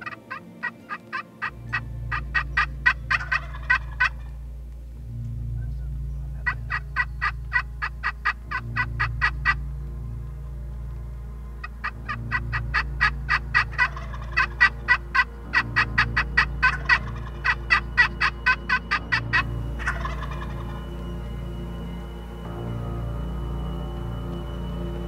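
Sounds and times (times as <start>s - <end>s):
turkey calling: 0.0s - 5.0s, 5.6s - 22.7s
low background music: 0.0s - 25.0s.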